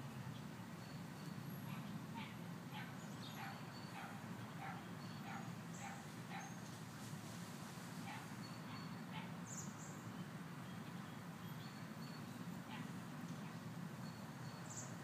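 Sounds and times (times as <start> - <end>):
faint rustling leaves: 0.0 - 15.0
low outdoor background hum: 0.0 - 15.0.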